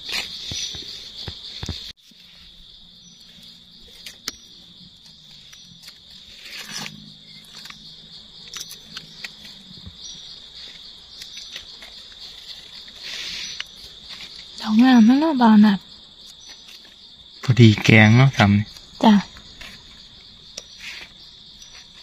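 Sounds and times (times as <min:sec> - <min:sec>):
rustles of dry leaf litter: 0:00.0 - 0:15.0, 0:18.8 - 0:22.0
insects chorus: 0:00.0 - 0:22.0.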